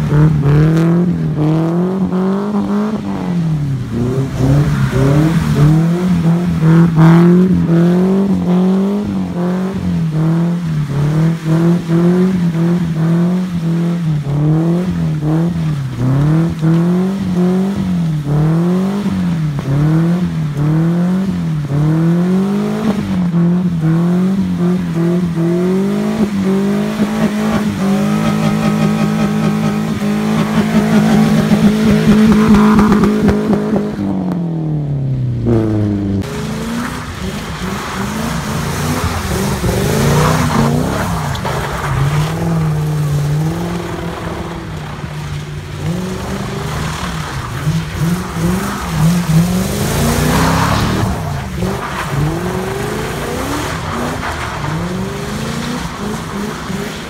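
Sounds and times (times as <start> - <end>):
car engine revving high: 0.0 - 57.0.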